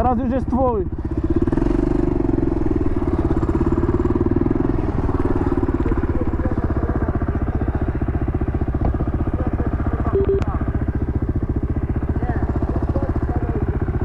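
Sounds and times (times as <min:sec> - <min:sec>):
quad engine running: 0:00.0 - 0:14.0.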